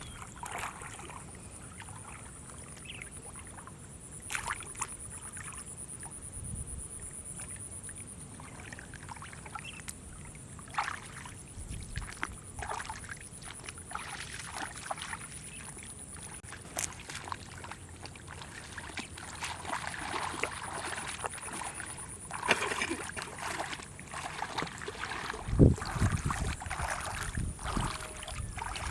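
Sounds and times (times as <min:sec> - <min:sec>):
water splashing and sloshing: 0:00.0 - 0:06.4, 0:07.1 - 0:28.9.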